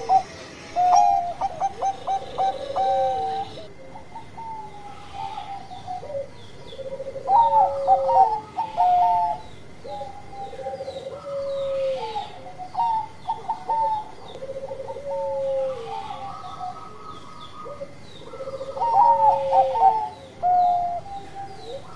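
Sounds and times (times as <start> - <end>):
dove cooing and trilling: 0.0 - 21.9.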